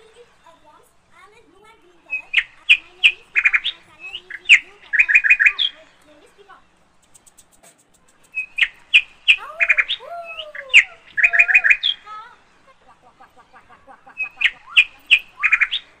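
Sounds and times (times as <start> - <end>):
birds chirping and whistling: 1.9 - 16.0.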